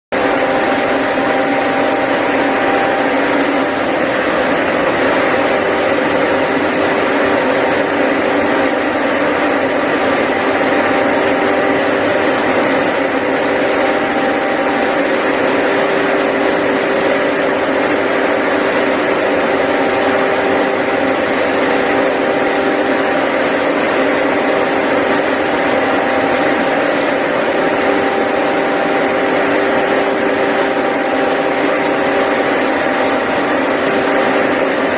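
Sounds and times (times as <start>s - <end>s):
paint sprayer engine running: 0.1s - 34.9s.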